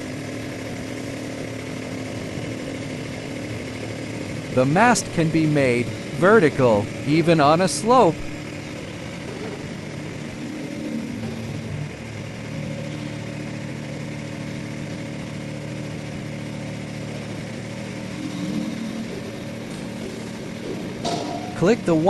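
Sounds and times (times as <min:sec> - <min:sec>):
pile driver engine running: 0:00.0 - 0:22.0.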